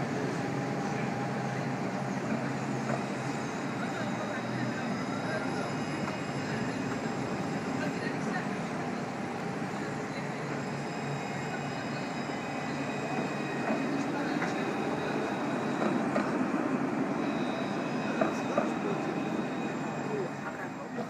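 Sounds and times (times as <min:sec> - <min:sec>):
electric tram passing: 0:00.0 - 0:21.0.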